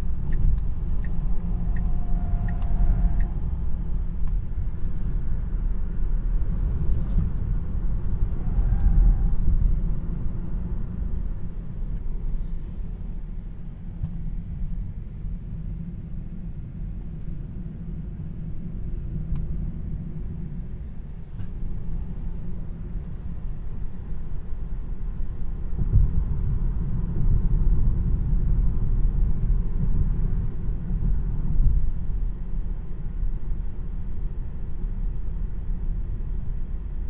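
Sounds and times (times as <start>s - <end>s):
road and tyre rumble in car cabin: 0.0s - 37.0s.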